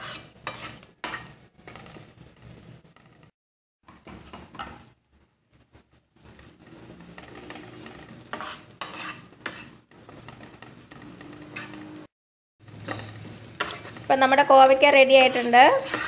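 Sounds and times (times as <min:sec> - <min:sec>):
spatula scraping frying pan: 0:00.0 - 0:03.3, 0:06.2 - 0:16.0
oil sizzling: 0:00.0 - 0:16.0.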